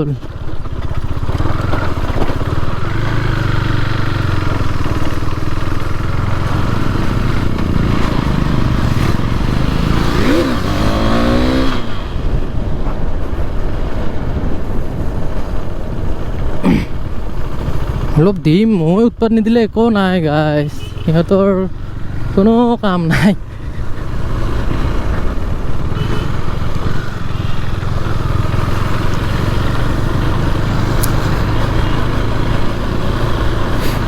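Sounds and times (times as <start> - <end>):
motorcycle engine running: 0.0 - 18.2, 20.4 - 34.0.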